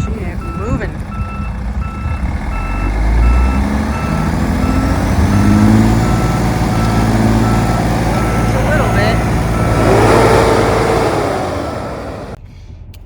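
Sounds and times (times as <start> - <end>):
heavy truck engine revving: 0.0 - 12.4
reversing alarm beeping: 0.0 - 12.4.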